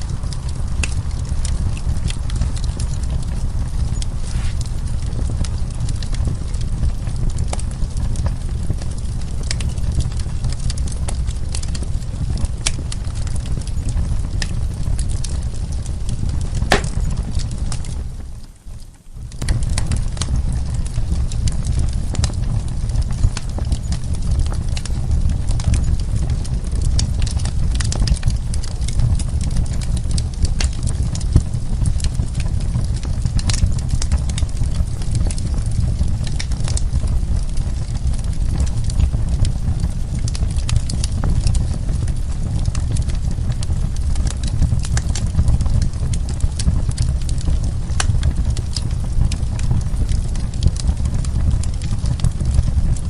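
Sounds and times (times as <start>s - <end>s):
fire popping and snapping: 0.0s - 53.0s
low rumble of burning logs: 0.0s - 53.0s.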